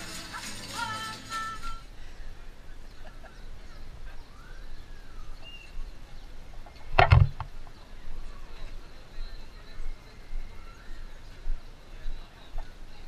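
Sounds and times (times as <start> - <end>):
faint street ambience: 0.0 - 13.0.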